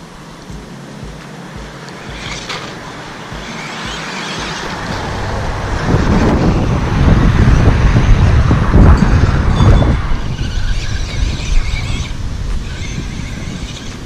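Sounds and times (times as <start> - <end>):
low rumble: 0.0 - 13.6
rc truck motor and tyres hissing: 0.0 - 14.0.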